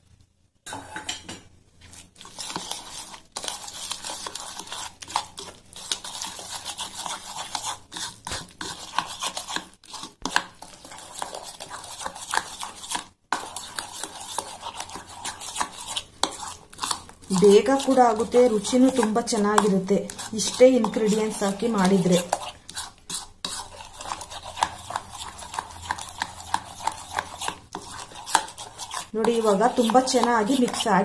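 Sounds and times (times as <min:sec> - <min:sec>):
spoon stirring thick paste: 0:00.7 - 0:31.0.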